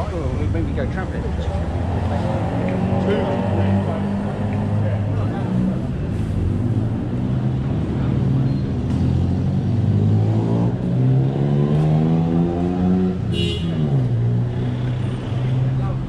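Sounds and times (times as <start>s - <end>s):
vehicle engine accelerating: 0.2s - 13.3s.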